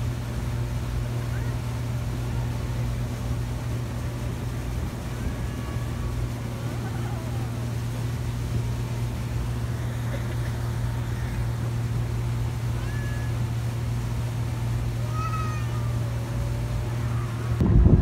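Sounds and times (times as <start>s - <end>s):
motorboat engine humming: 0.0s - 18.0s
wind and water noise: 0.0s - 18.0s.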